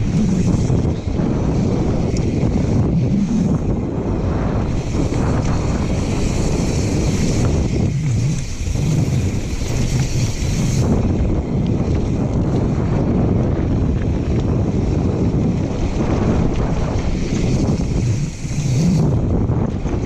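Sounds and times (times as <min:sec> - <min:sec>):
tyres rumbling on dirt and gravel: 0:00.0 - 0:20.0
wind buffeting microphone: 0:00.0 - 0:20.0.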